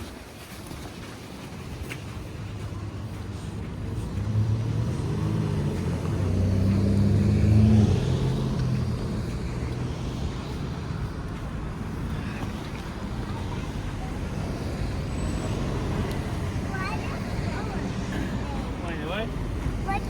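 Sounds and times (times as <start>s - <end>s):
vehicle driving past: 3.3s - 20.0s.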